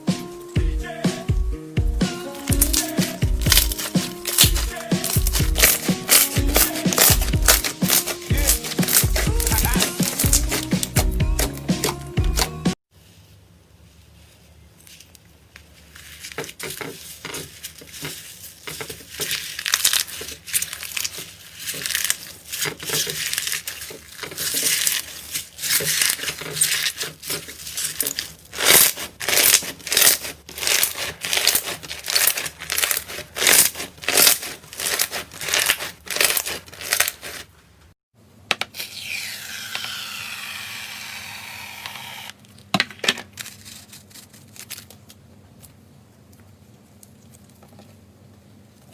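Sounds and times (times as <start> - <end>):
slime crackling and crinkling: 2.2 - 38.0, 43.3 - 48.0.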